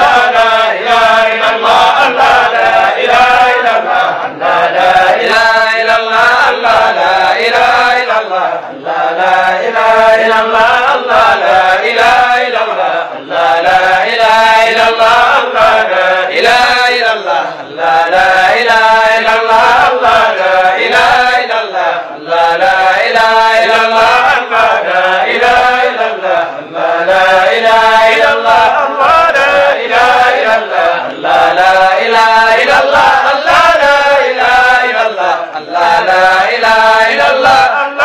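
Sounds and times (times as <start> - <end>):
man chanting: 0.0 - 38.0.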